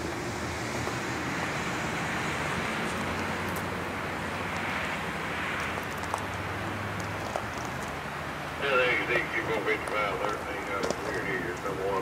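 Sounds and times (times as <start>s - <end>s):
distant locomotive engine drone: 0.0s - 12.0s.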